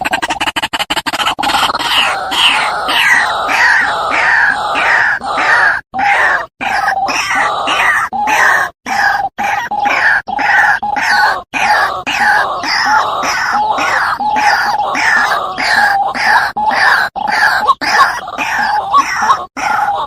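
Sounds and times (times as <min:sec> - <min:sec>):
waterhen calling harshly: 0:01.0 - 0:20.0.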